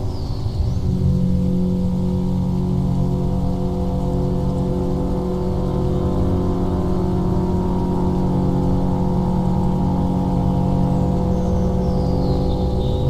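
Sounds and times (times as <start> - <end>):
dense drone of sustained tones: 0.0 - 13.0.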